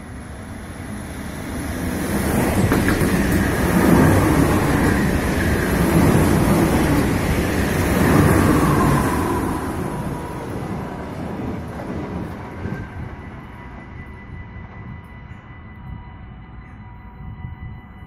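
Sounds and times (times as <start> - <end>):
electric train rumble: 0.0 - 18.0.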